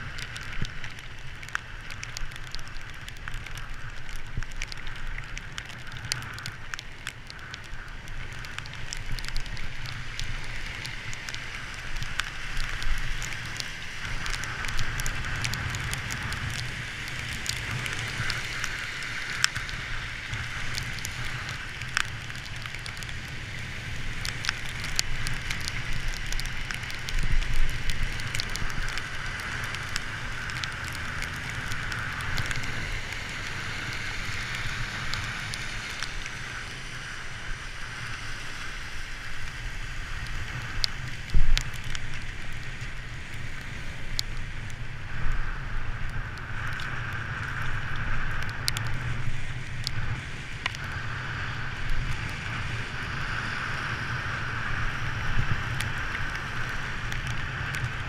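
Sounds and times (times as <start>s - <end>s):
bicycle tyres hissing on wet pavement: 0.0s - 58.0s
raindrops ticking on camera: 0.0s - 58.0s
wind rumbling on microphone: 0.0s - 58.0s.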